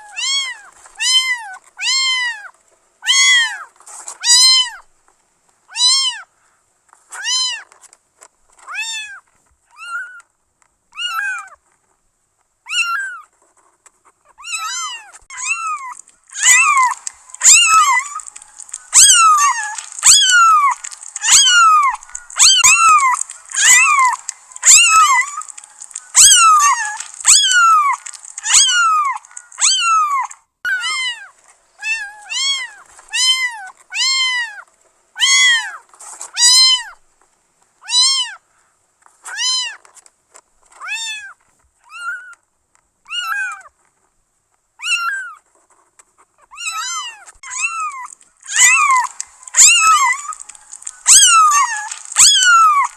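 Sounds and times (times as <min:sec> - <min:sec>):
kittens mewing: 0:00.0 - 0:04.9, 0:05.7 - 0:07.9, 0:08.5 - 0:10.3, 0:10.9 - 0:11.8, 0:12.7 - 0:37.0, 0:37.8 - 0:42.4, 0:43.1 - 0:43.8, 0:44.8 - 0:52.9.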